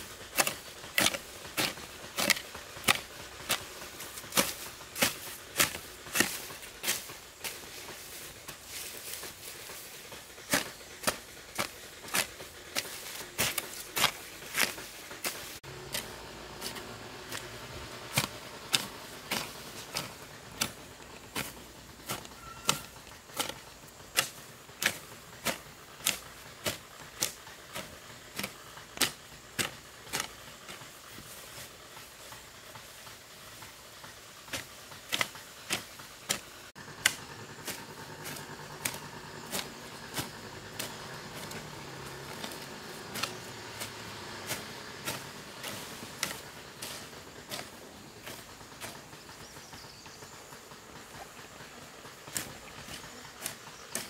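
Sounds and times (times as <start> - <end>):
hand hoe chopping into soil: 0.0 - 50.0, 52.2 - 54.0.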